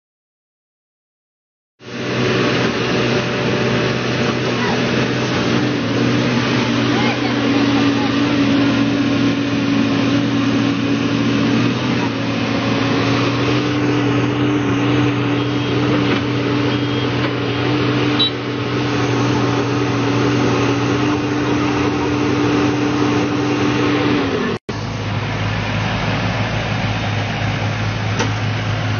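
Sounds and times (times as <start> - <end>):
heavy machinery engine running: 1.8 - 28.9.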